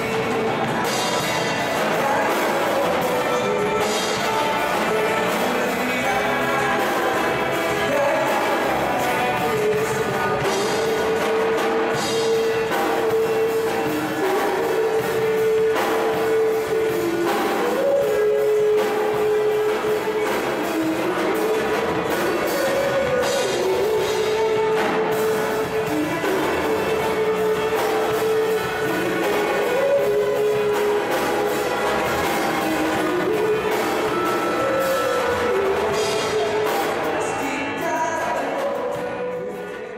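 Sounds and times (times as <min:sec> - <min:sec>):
lead vocal singing: 0:00.0 - 0:39.9
rock band playing: 0:00.0 - 0:39.9.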